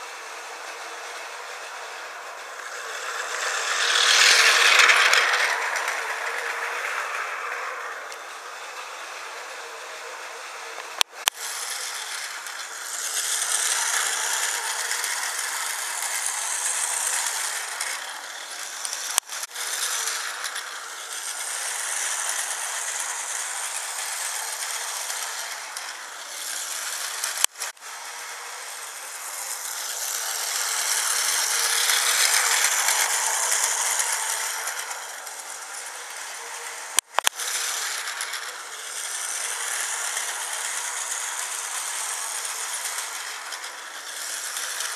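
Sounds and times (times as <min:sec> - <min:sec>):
toy train motor whirring: 0:00.0 - 0:44.9.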